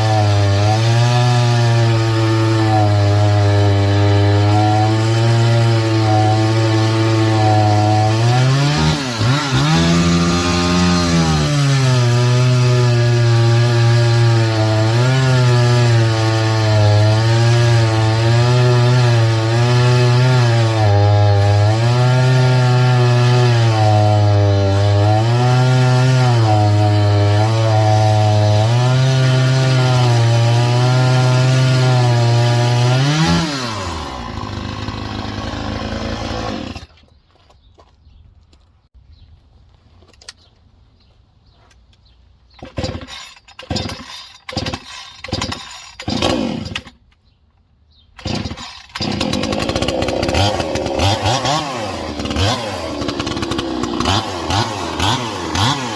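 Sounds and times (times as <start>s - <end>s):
chainsaw cutting wood: 0.0s - 37.0s, 42.5s - 47.1s, 48.1s - 55.9s.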